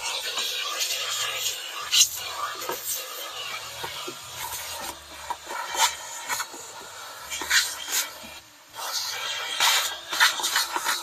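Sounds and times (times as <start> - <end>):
portable vacuum cleaner running: 0.0 - 11.0.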